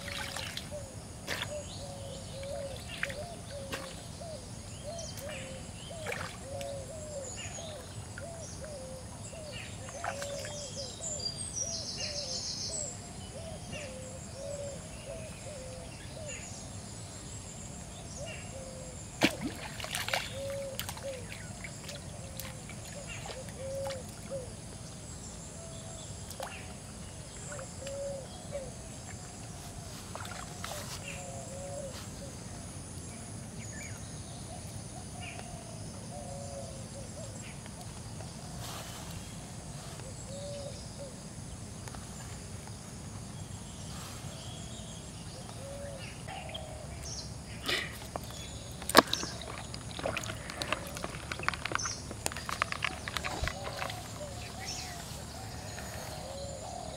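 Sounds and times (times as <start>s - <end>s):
steady background hiss: 0.0s - 19.2s, 20.2s - 49.6s.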